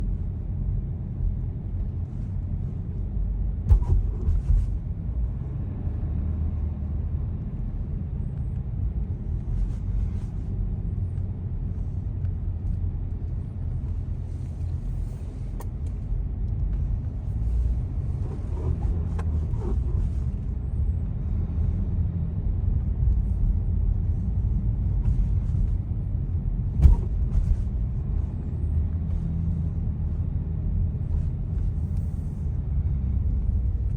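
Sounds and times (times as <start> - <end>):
car low rumble: 0.0 - 33.9.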